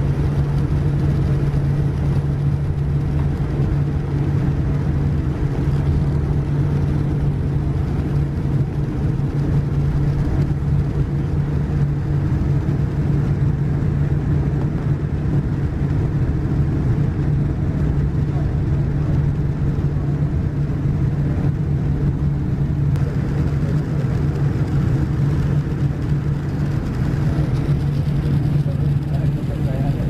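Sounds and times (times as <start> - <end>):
jet engines idling in cabin: 0.0 - 30.0.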